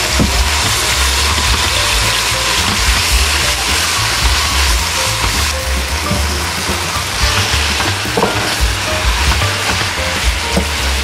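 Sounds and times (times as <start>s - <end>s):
meat sizzling in a frying pan: 0.1s - 11.0s.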